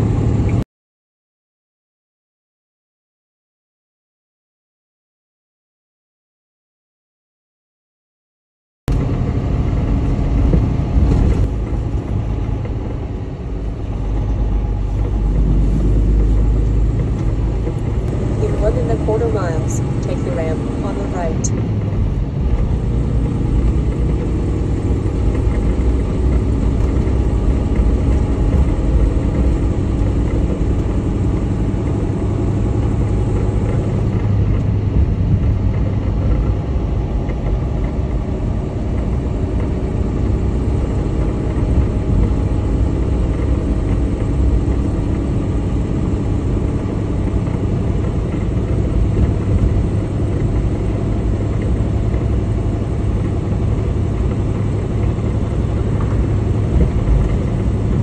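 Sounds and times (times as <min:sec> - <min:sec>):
diesel engine rumble: 0:00.0 - 0:00.6, 0:08.9 - 0:58.0.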